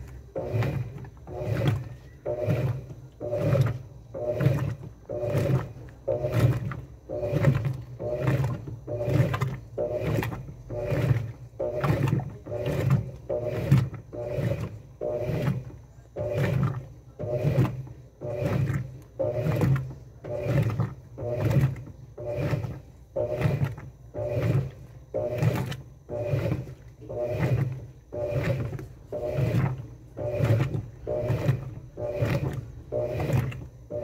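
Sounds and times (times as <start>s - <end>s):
motor low growl: 0.0s - 34.0s
washing machine agitator swishing water: 0.0s - 34.0s.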